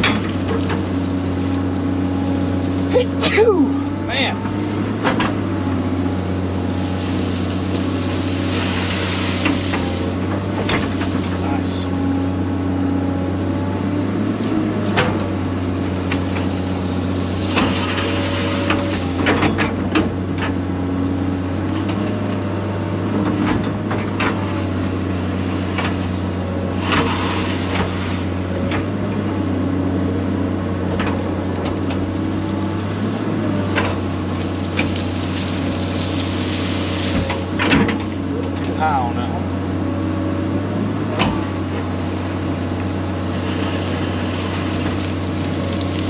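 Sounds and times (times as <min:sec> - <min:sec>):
branches cracking and breaking: 0:00.0 - 0:46.0
excavator engine running: 0:00.0 - 0:46.0.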